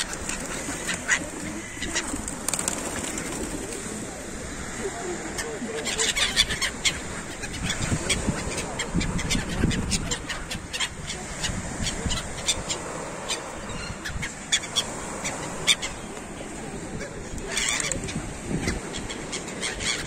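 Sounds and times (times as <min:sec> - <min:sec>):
gulls calling: 0:00.0 - 0:20.0
sea surf: 0:00.0 - 0:20.0.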